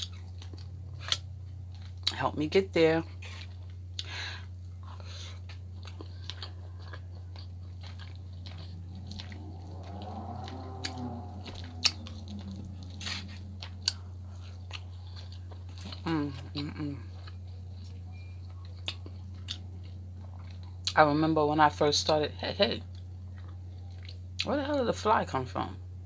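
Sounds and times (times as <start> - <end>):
chewing with wet mouth clicks: 0.0 - 2.2, 3.2 - 21.0, 22.8 - 24.8
steady low hum: 0.0 - 26.0.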